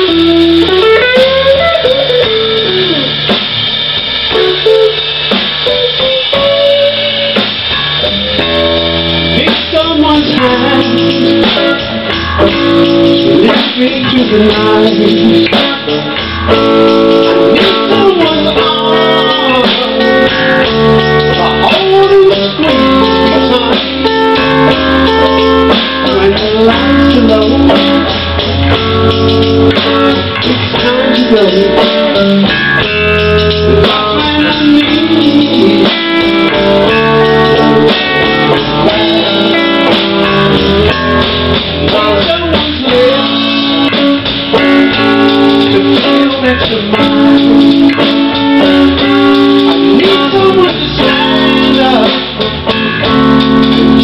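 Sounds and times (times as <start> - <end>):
drum kit: 0.0 - 54.0
electric bass: 0.0 - 54.0
electric guitar lead lines: 0.0 - 54.0.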